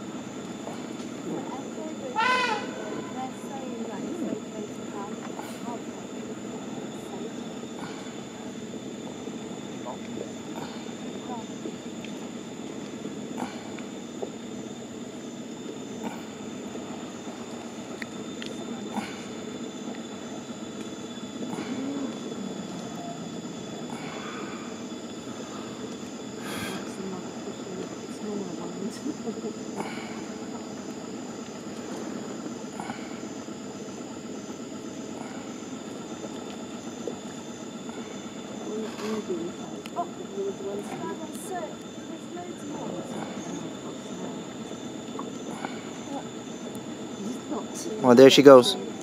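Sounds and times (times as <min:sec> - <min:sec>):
boat engine idling: 0:00.0 - 0:49.0.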